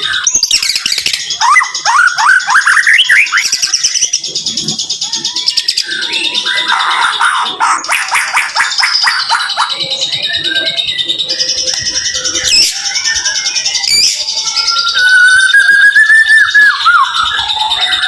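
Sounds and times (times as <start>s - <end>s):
songbird singing rapid song: 0.0s - 18.0s.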